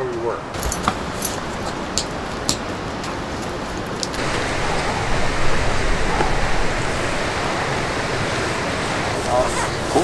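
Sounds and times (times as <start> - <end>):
steady rushing noise: 0.6 - 10.0.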